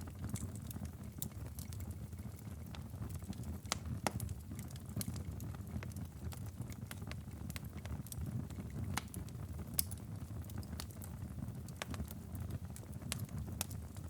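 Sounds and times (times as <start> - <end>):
fire crackling and popping: 0.0 - 14.0
low rumble of flames: 0.0 - 14.0.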